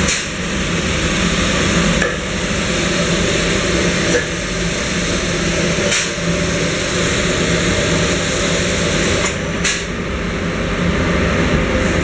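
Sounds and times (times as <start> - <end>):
rush of compressed air: 0.0 - 9.9
spray gun air hiss: 0.0 - 9.9
low machine hum: 0.0 - 12.0.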